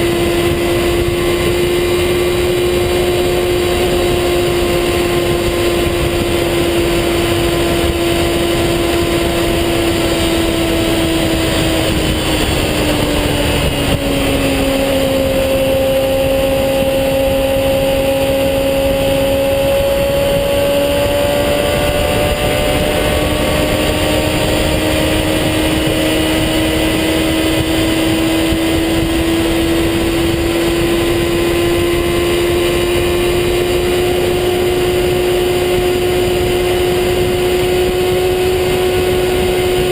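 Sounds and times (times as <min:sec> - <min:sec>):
vehicle engine running: 0:00.0 - 0:39.9
wind rush on microphone: 0:00.0 - 0:39.9.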